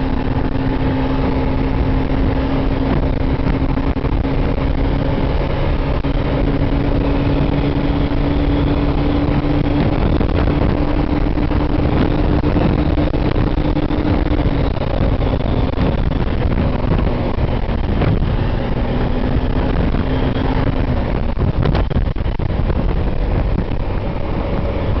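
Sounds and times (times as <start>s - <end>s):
scooter engine at high revs: 0.0s - 25.0s
wind rumble on microphone: 0.0s - 25.0s.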